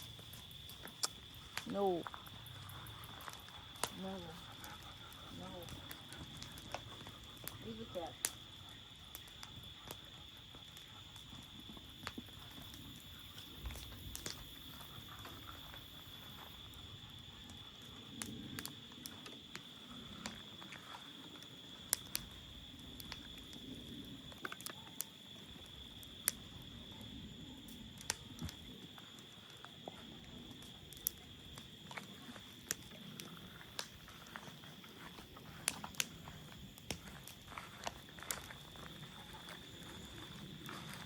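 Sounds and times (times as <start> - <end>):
sharp crackles and clicks: 0.0 - 41.0.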